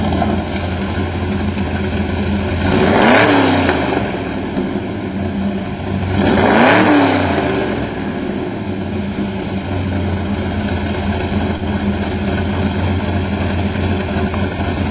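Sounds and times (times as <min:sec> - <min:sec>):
diesel engine revving and idling: 0:00.0 - 0:14.9.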